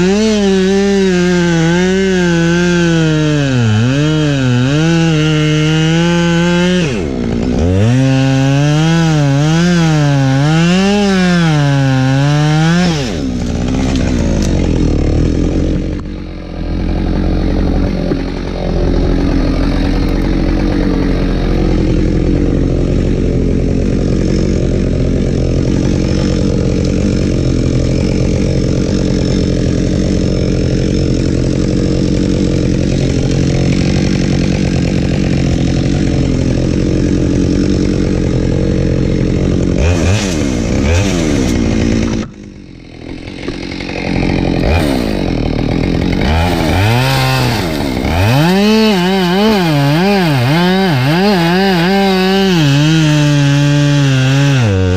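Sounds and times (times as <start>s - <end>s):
chainsaw cutting firewood: 0.0s - 54.9s.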